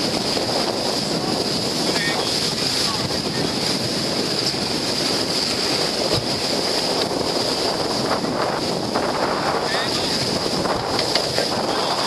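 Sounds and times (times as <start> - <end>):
water and waves washing: 0.0 - 12.0
wind on microphone: 0.0 - 12.0.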